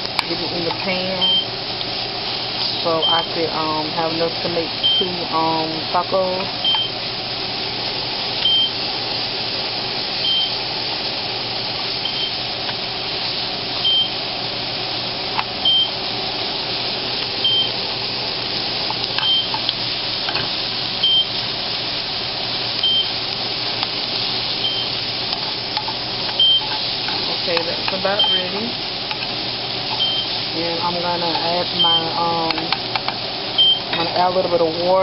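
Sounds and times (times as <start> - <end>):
chicken sizzling in a pan: 0.0 - 35.0.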